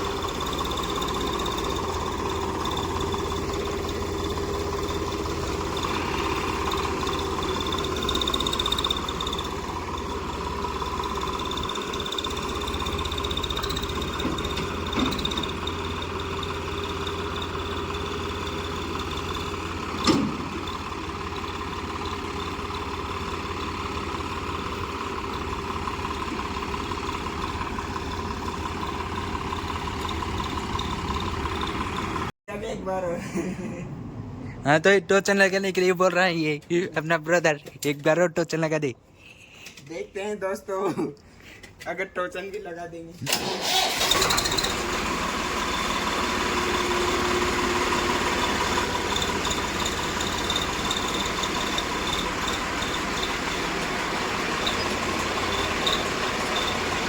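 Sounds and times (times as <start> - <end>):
tractor diesel engine running: 0.0 - 33.0, 43.3 - 57.0.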